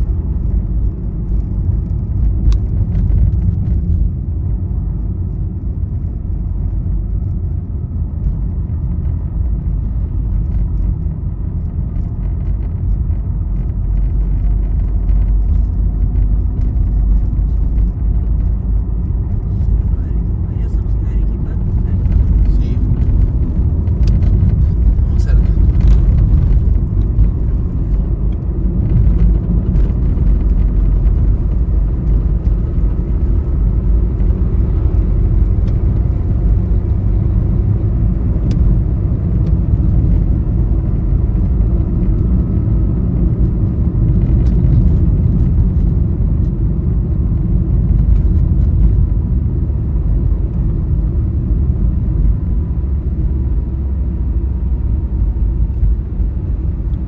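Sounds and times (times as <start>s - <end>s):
vehicle road rumble: 0.0s - 57.0s.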